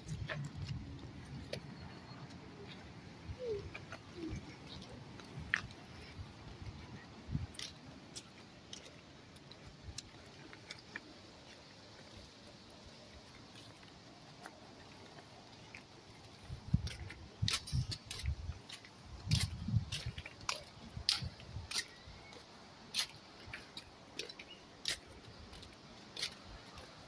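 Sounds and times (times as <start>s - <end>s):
footsteps on stone paving: 0.0s - 27.0s.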